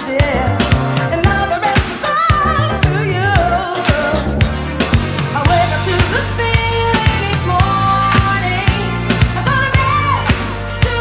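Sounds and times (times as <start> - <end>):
background pop music: 0.0 - 11.0.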